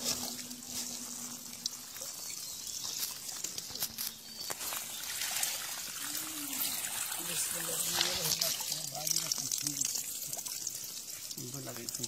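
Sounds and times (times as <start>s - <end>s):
water trickling and sloshing: 0.0s - 12.0s.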